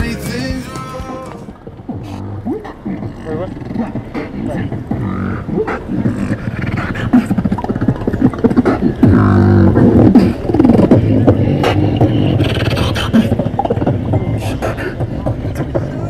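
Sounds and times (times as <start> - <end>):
hummed bass: 0.0 - 6.3, 7.6 - 16.0
beatboxing clicks and pops: 0.6 - 16.0.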